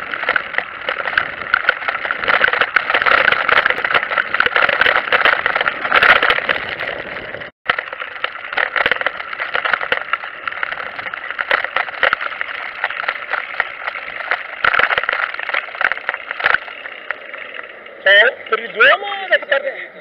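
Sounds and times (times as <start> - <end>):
dense irregular clicks: 0.0 - 19.5
trike rattling over stone paving: 0.0 - 19.6.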